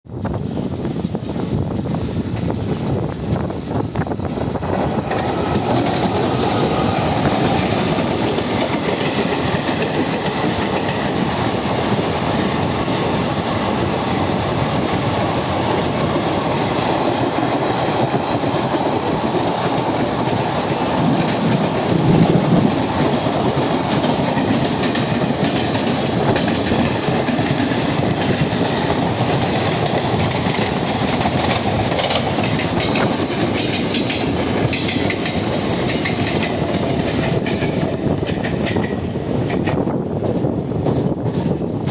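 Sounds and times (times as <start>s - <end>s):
train wheels clattering over rail joints: 0.3s - 41.9s.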